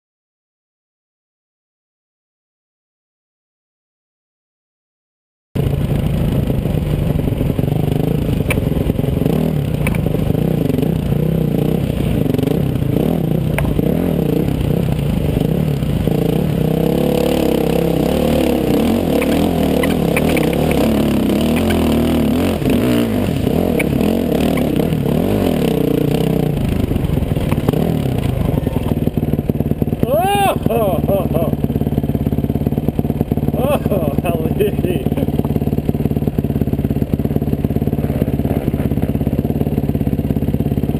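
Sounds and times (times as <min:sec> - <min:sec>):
dirt bike engine revving: 0:05.6 - 0:40.9.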